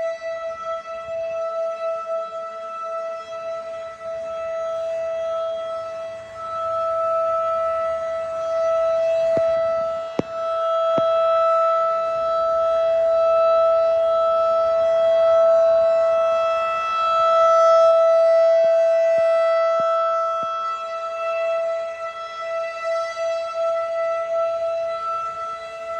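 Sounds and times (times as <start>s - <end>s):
warning siren steady low tone: 0.0s - 25.9s.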